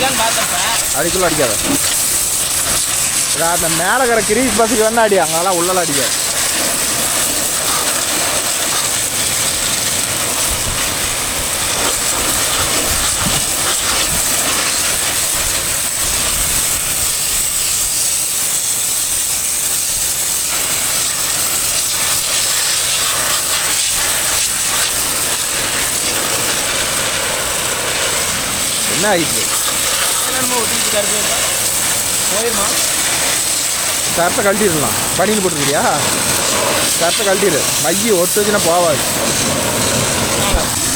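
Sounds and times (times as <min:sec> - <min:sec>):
pressure washer spraying metal: 0:00.0 - 0:40.9.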